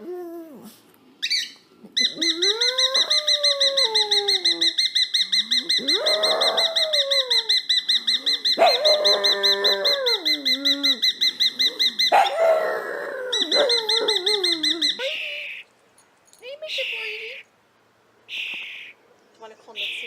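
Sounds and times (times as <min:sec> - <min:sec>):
bird lower falling calls: 0:01.2 - 0:15.7, 0:16.7 - 0:17.6, 0:18.3 - 0:20.0.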